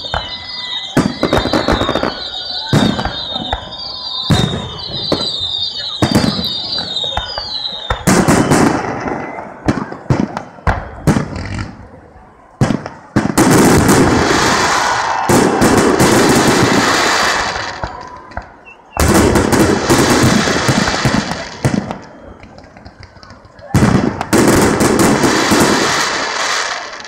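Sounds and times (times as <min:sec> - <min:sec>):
fireworks bangs: 0:00.0 - 0:27.0
fireworks crackling bursts: 0:00.0 - 0:27.0.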